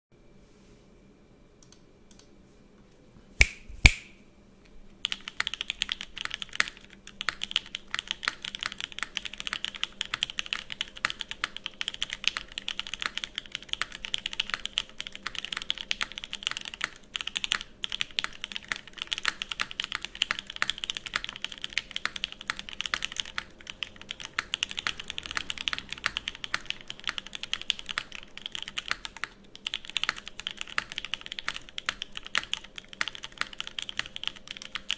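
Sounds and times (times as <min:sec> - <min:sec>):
fast mechanical keyboard typing: 0:05.0 - 0:34.9
sharp loud keyboard clacks: 0:05.0 - 0:34.9.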